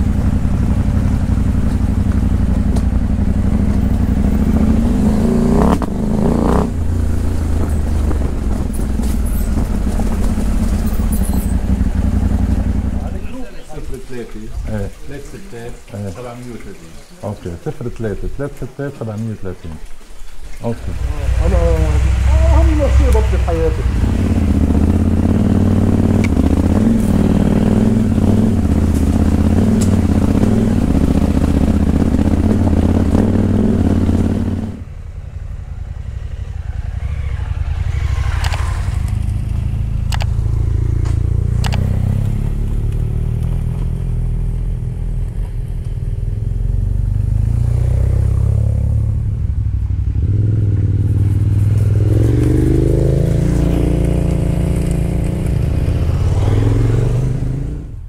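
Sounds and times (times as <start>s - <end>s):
motorcycle engine running: 0.0s - 13.6s, 20.9s - 58.0s.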